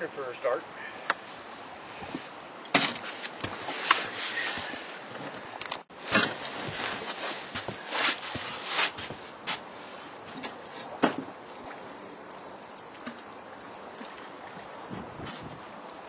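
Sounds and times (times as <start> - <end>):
hiss of wind and water: 0.0 - 16.0
footsteps and gear on boat deck: 0.3 - 16.0.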